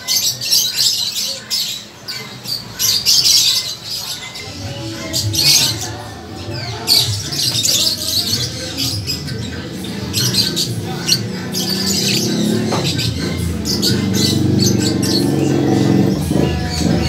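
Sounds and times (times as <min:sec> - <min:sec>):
caged birds squawking: 0:00.0 - 0:17.0.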